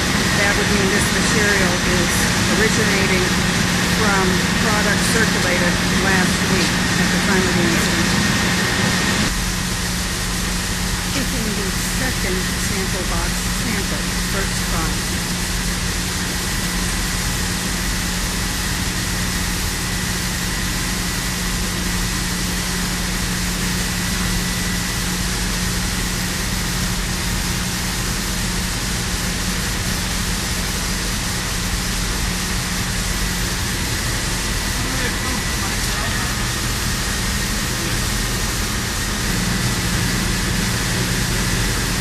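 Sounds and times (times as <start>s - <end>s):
faint high whine: 0.0s - 42.0s
industrial equipment hiss and hum: 0.0s - 42.0s.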